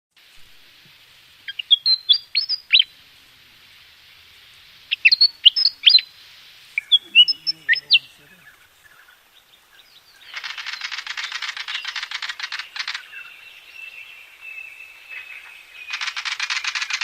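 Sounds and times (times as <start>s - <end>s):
faint steady hiss: 0.2s - 17.0s
songbird singing: 0.3s - 17.0s.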